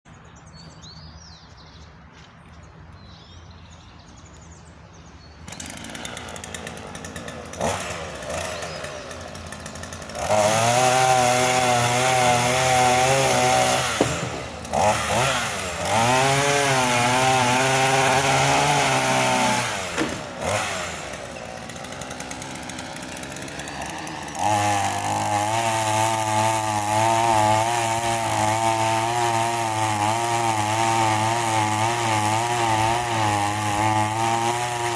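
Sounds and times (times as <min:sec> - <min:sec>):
chainsaw engine revving and idling: 0:05.4 - 0:34.9.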